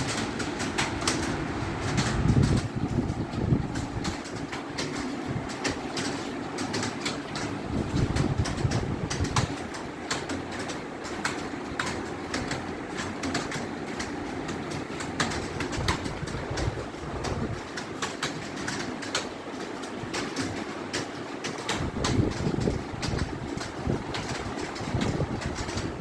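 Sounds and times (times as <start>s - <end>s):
fast typing on keyboard: 0.0s - 26.0s.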